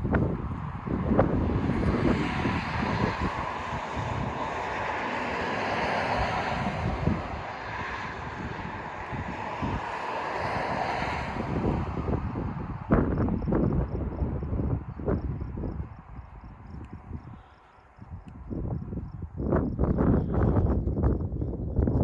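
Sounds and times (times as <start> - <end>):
steady rushing noise: 0.0 - 22.0
wind buffeting microphone: 0.0 - 22.0.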